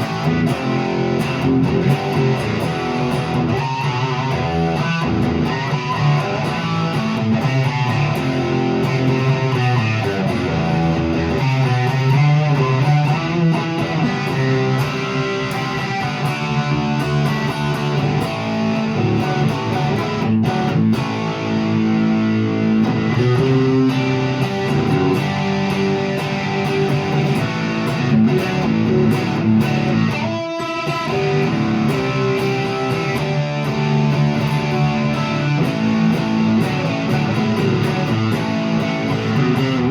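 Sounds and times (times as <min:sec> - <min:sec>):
electric guitar: 0:00.0 - 0:39.9.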